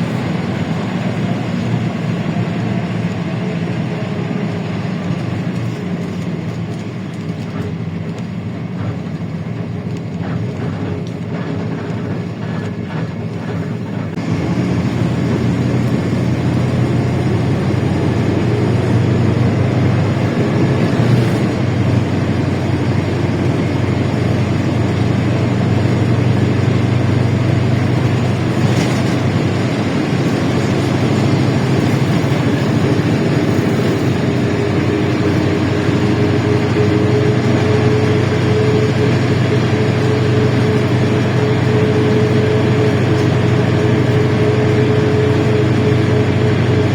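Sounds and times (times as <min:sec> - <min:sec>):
bus engine droning: 0:00.0 - 0:46.9.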